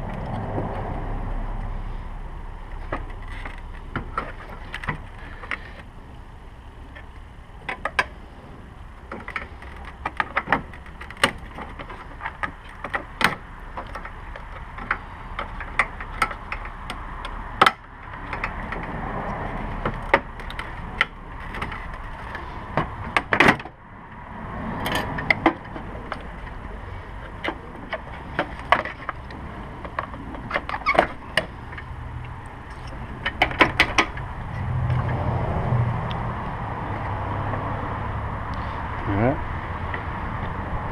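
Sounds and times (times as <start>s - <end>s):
rushing background noise: 0.0s - 40.9s.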